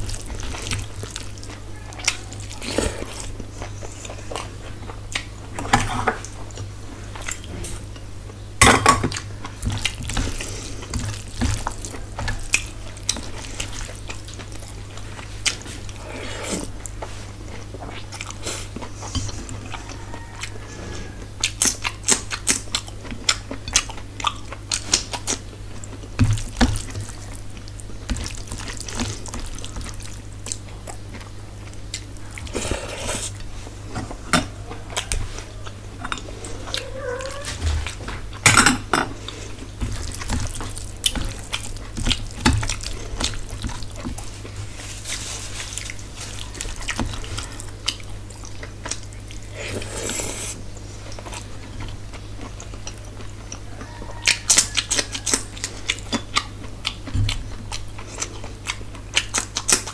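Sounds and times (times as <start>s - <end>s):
wet chewing: 0.0s - 5.4s, 9.1s - 20.7s, 21.4s - 38.4s, 39.2s - 59.9s.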